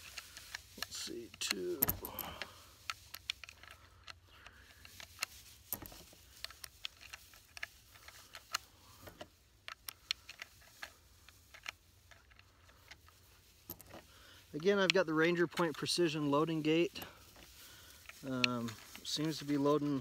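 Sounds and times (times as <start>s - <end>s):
small metallic clicks: 0.0s - 16.2s, 16.8s - 20.0s.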